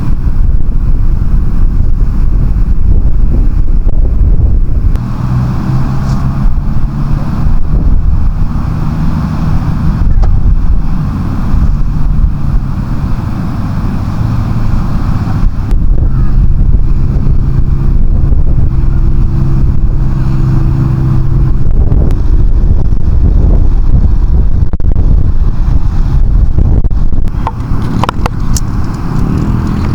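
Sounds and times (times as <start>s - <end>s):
vehicle engine humming: 0.0s - 29.9s
wind noise on microphone: 0.0s - 29.9s.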